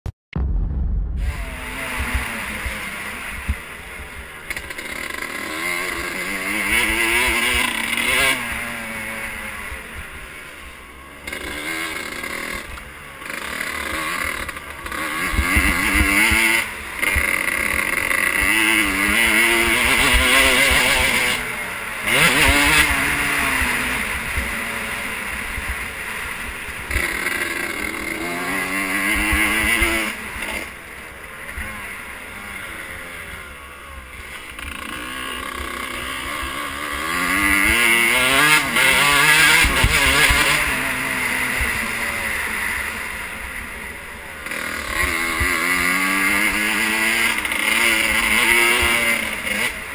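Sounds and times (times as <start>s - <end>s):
dirt bike engine revving: 1.2s - 49.9s.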